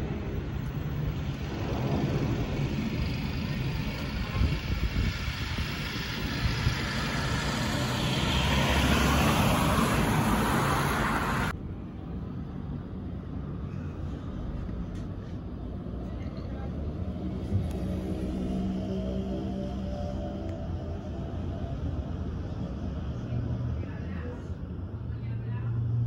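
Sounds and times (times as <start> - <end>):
distant jet engine rumble: 0.0 - 25.4.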